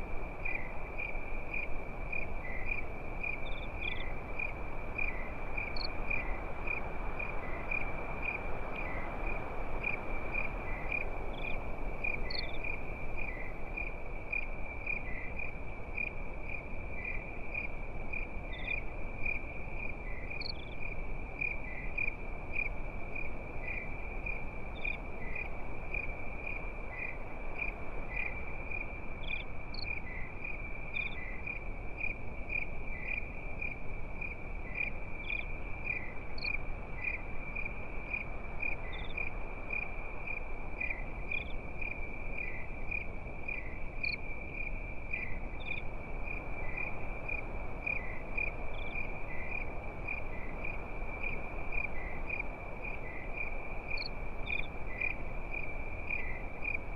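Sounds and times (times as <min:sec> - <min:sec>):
crickets chirping: 0:00.0 - 0:56.9
insect chirps: 0:00.0 - 0:56.9
soft steady hiss: 0:00.0 - 0:56.9.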